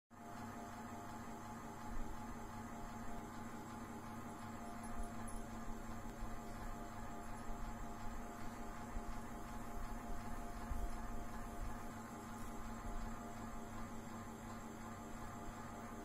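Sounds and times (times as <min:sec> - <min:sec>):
electrical hum: 0:00.2 - 0:16.0.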